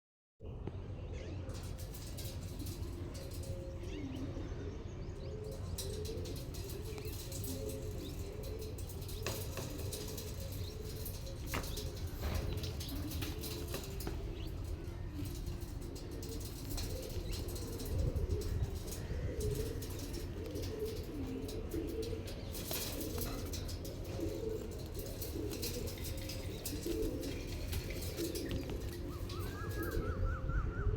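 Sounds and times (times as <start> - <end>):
pigeons cooing: 1.5 - 30.9
wings flapping: 5.4 - 30.3.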